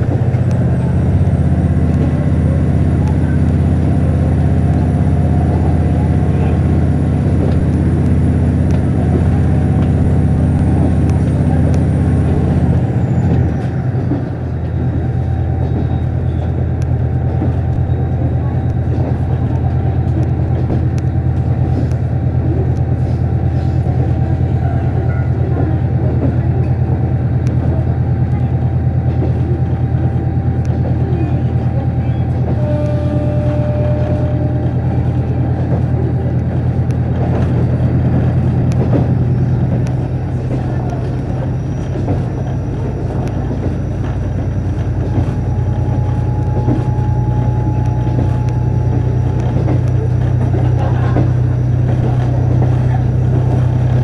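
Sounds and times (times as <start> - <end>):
railcar engine hum: 0.0 - 54.0
wheel and rail noise: 0.0 - 54.0.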